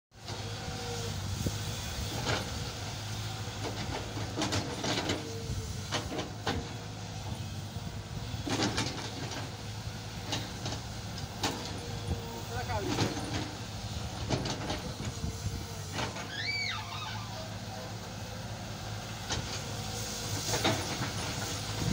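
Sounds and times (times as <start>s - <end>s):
excavator diesel engine running: 0.2s - 21.9s.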